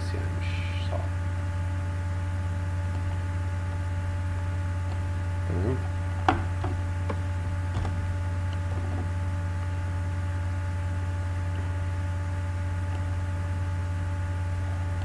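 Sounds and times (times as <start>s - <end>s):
mains hum: 0.0s - 15.0s.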